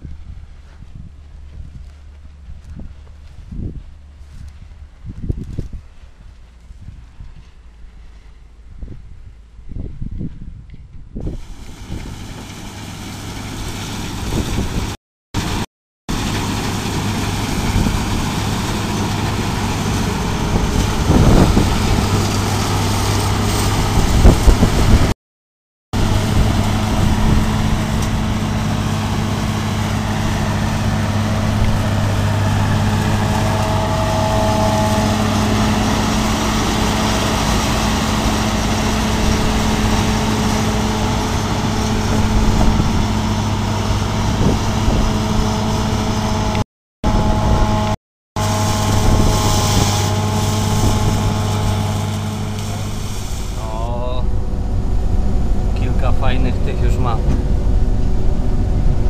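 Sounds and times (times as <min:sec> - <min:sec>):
combine harvester engine humming: 0:00.0 - 0:25.1, 0:26.0 - 0:59.0.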